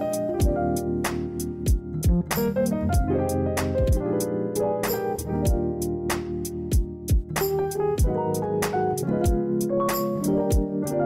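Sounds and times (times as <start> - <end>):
instrumental chords over a beat: 0.0 - 11.0.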